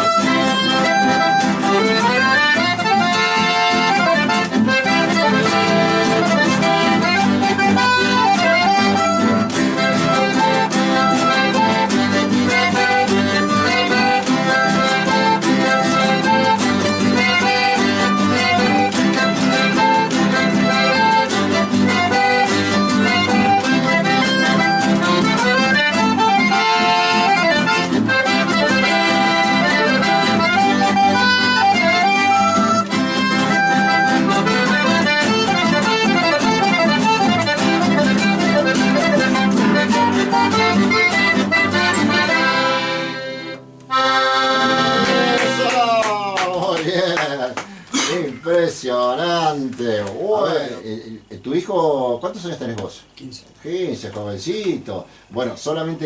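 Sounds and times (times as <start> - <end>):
accordion playing: 0.0 - 48.2
guitar accompaniment: 0.0 - 56.0.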